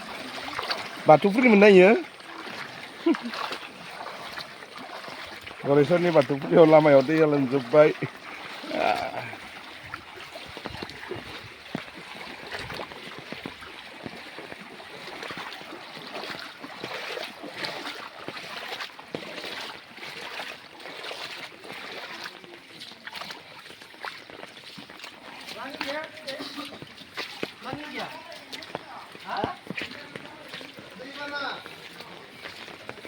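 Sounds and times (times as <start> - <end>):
floodwater rushing over road: 0.0 - 33.0
small water splashes: 0.0 - 33.0.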